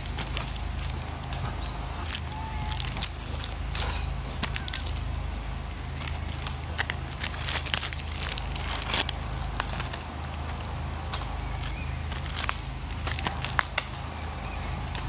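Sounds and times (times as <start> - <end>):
low steady hum: 0.0 - 15.0
plastic wrappers crinkling: 0.0 - 15.0.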